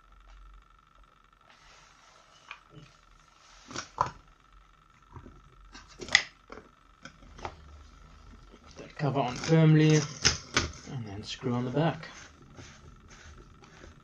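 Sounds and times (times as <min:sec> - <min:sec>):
plastic parts rustling and scraping: 0:01.5 - 0:04.2, 0:05.0 - 0:14.0.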